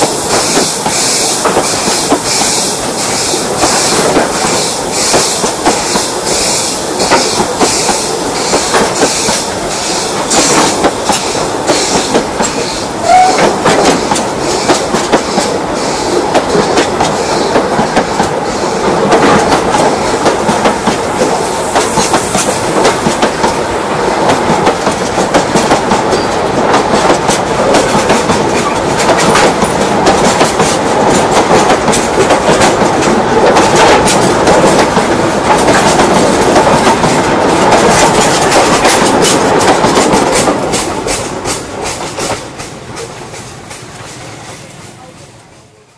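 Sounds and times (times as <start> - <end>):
train wheels clattering over rail joints: 0.1 - 44.3.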